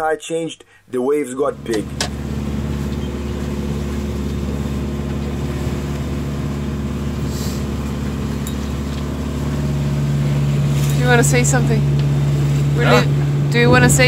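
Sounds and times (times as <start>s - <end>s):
diesel engine droning: 1.5s - 14.0s.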